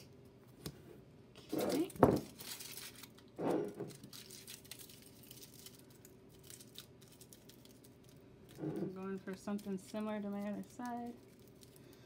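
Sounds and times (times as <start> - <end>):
foil crinkling and rustling: 1.5 - 3.3, 3.9 - 12.0.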